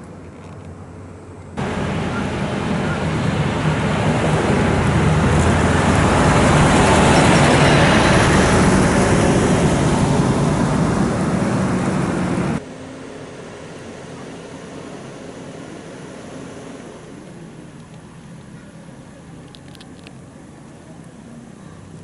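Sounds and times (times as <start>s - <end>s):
motor vehicle passing: 1.6s - 22.0s.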